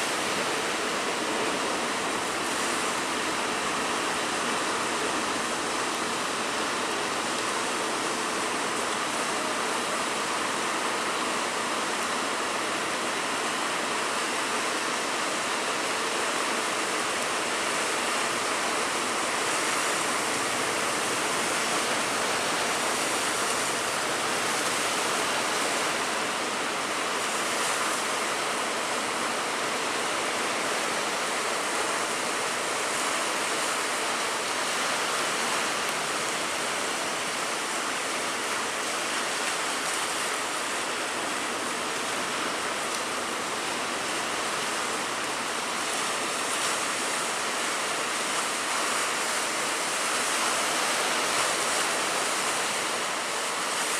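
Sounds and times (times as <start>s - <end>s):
big waves breaking: 0.0s - 53.9s.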